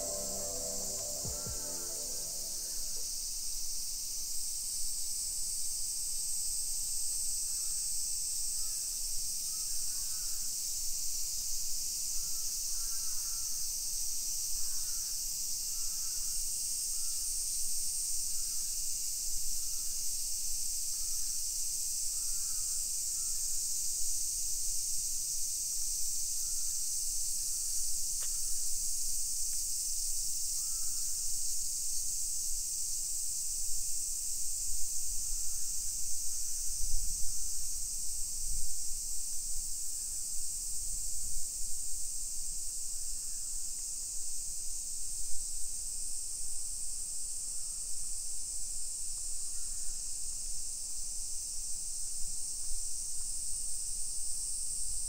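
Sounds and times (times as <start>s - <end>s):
cicada chorus: 0.0s - 55.0s.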